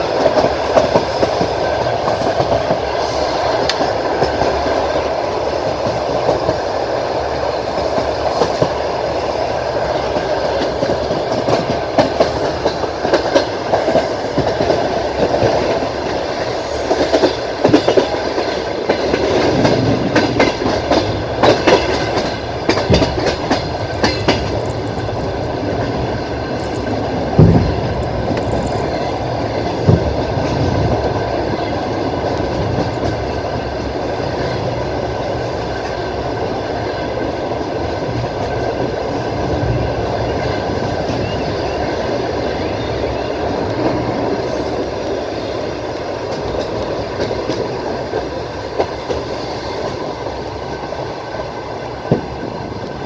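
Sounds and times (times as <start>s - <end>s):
train rumbling along track: 0.0s - 53.0s
wheels clicking over rail joints: 0.0s - 53.0s.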